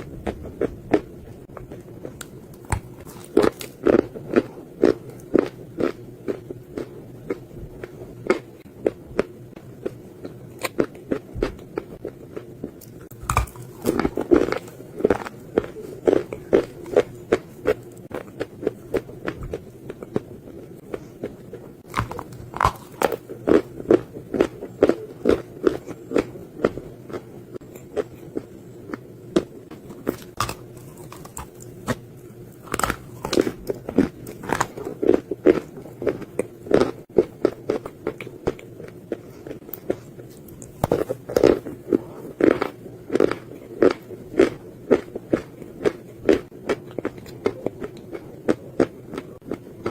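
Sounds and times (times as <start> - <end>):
clay being bitten and chewed: 1.6 - 20.2, 20.8 - 26.3, 27.1 - 49.9.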